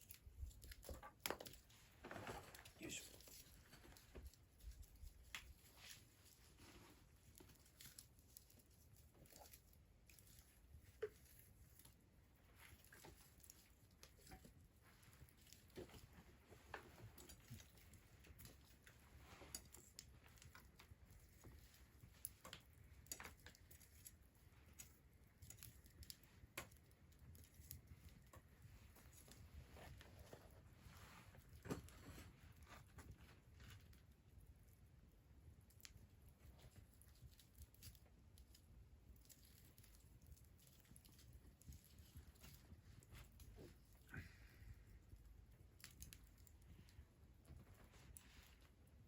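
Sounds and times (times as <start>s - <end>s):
wood fire crackling and popping: 0.0s - 30.6s, 31.5s - 48.9s.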